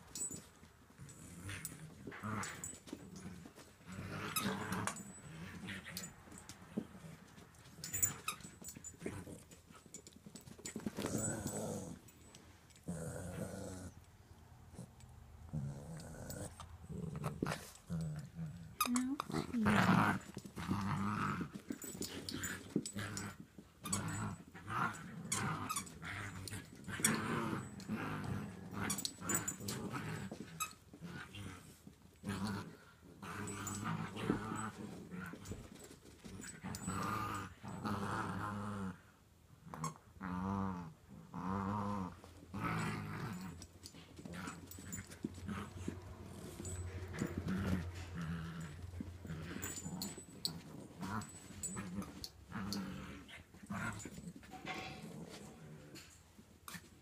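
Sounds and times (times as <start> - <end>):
small dogs play-growling: 0.0 - 57.0.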